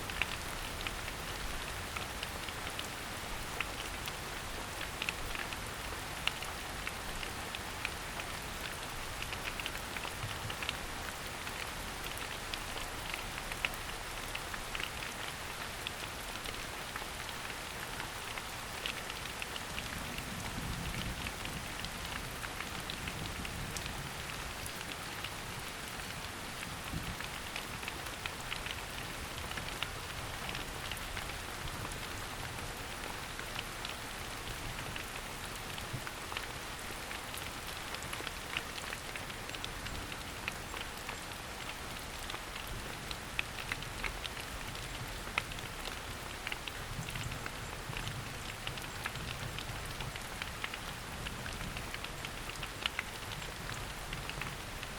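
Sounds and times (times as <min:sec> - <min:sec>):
rain falling in forest: 0:00.0 - 0:54.9
raindrops ticking: 0:00.0 - 0:54.9.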